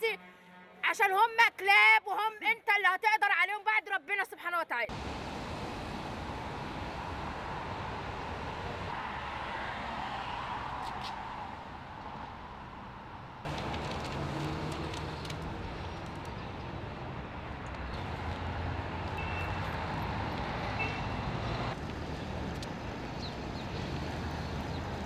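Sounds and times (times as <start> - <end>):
cars passing on street: 4.9 - 25.0.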